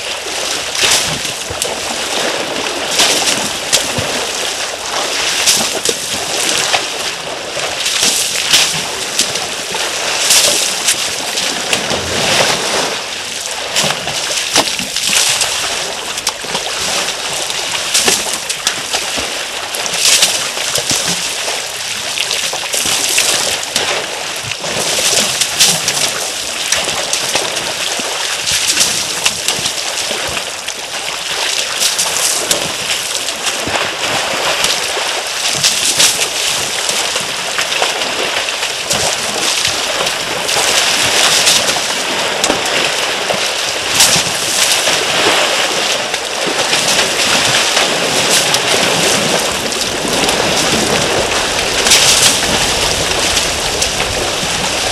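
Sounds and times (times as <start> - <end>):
elephants splashing in water: 0.0 - 54.9.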